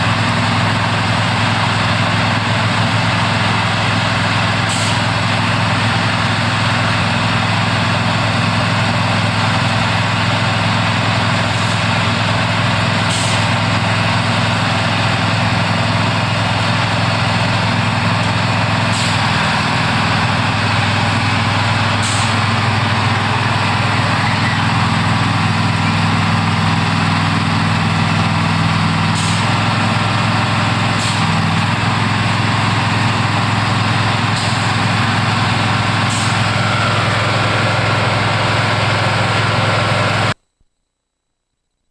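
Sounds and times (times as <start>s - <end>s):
heavy diesel engine running: 0.0s - 40.4s.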